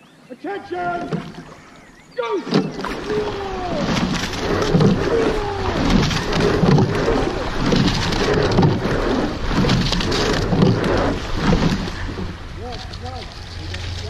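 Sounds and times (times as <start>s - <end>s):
water rushing along hull: 0.0s - 14.0s
oar blades splashing: 0.7s - 14.0s.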